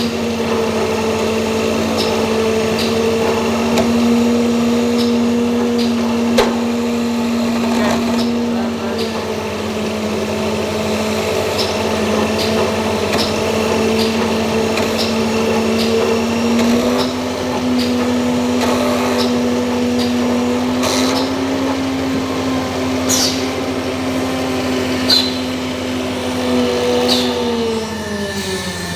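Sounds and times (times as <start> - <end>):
electric motor running: 0.0 - 28.9.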